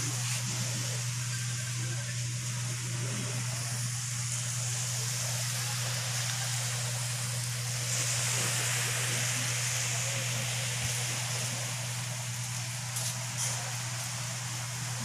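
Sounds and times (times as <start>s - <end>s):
distant surf: 0.0s - 15.0s
steady low hum: 0.0s - 15.0s
wind hiss: 0.0s - 15.0s.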